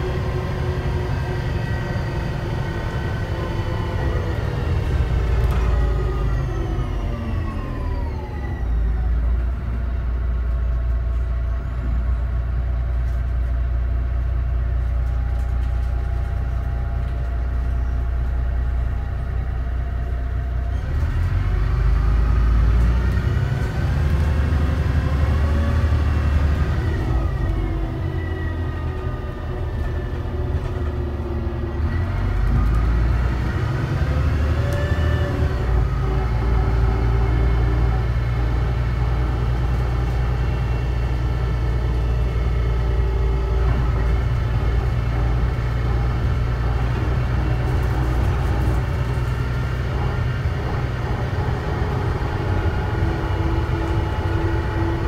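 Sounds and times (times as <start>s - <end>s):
bus engine and transmission whine: 0.0s - 55.0s.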